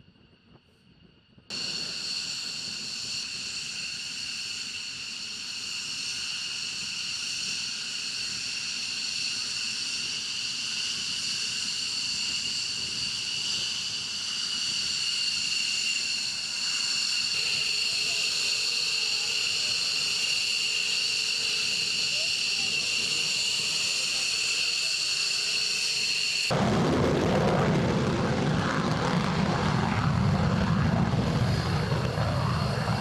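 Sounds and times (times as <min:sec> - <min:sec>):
jet engines whining: 0:01.5 - 0:33.0.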